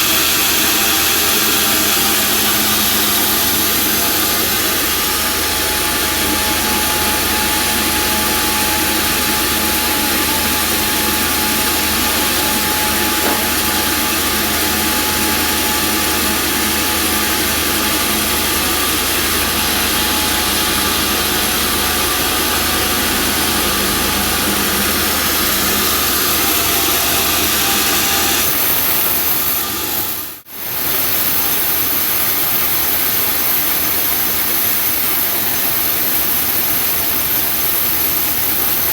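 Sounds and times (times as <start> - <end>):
bandsaw sawmill running: 0.0 - 38.9.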